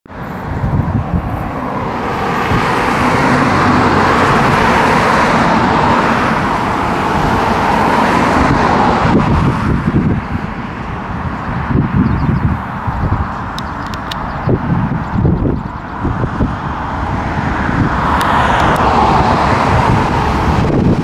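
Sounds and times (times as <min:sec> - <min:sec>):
passing vehicles traffic noise: 0:00.1 - 0:21.0.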